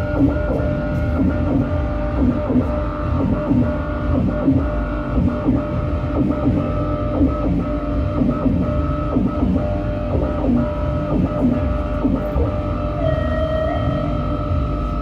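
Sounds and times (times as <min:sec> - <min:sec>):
distorted guitar and electronic noise: 0:00.0 - 0:15.0.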